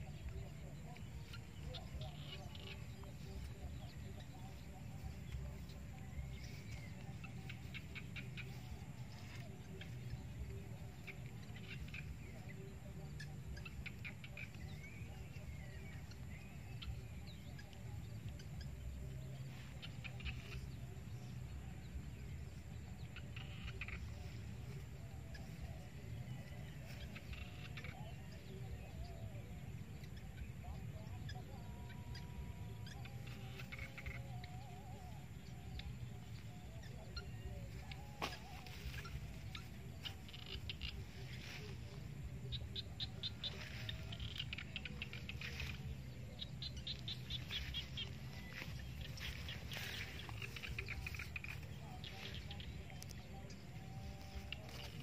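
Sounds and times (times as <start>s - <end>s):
faint birdsong: 0.0s - 55.0s
steady low rumble: 0.0s - 55.0s.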